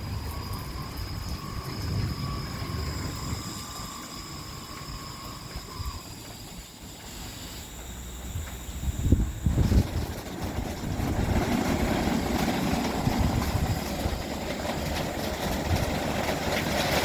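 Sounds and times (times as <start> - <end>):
car wash machine rumble: 0.0 - 17.0.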